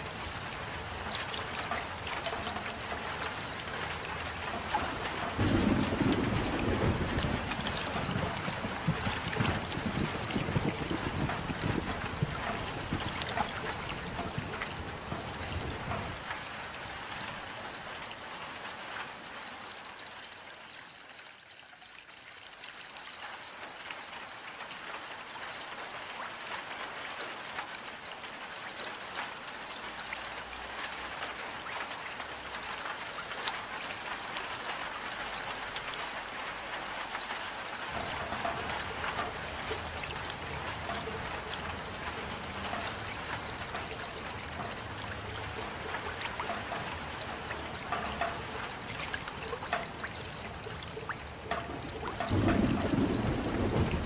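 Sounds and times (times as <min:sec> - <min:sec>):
rain patter: 0:00.0 - 0:54.0.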